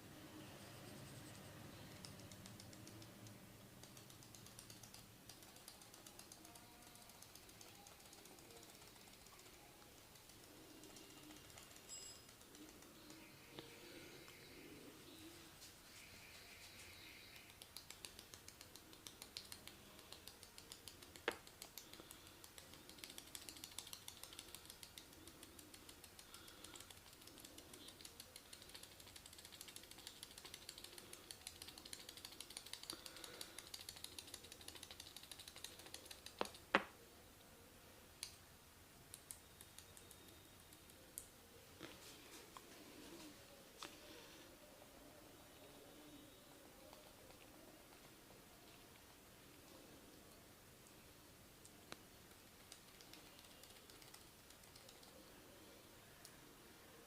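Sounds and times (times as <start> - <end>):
clicking and crackling during massage: 1.7 - 14.4, 16.3 - 37.0, 38.1 - 38.4, 39.0 - 44.1, 46.8 - 57.0.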